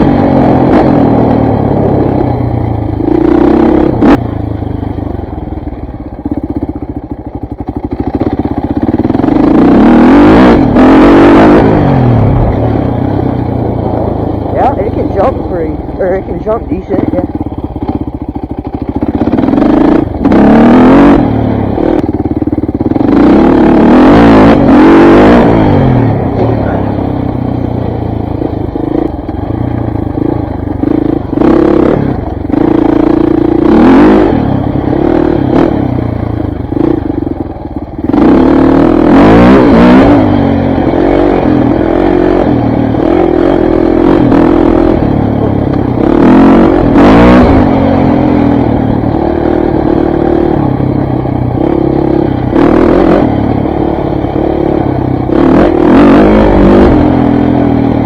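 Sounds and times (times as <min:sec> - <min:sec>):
dirt bike engine revving: 0:00.0 - 0:04.4, 0:08.2 - 0:58.0.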